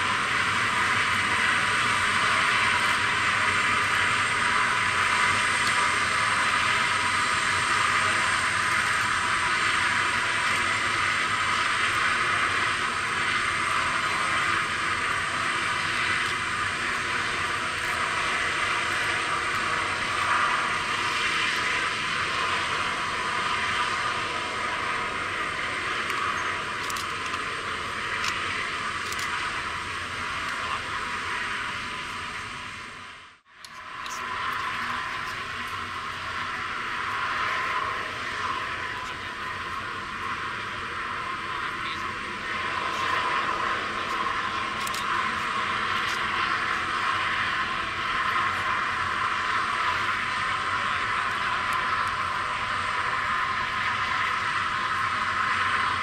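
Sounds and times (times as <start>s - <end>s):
faint high turbine whine: 0.0s - 56.0s
turbine hiss: 0.0s - 56.0s.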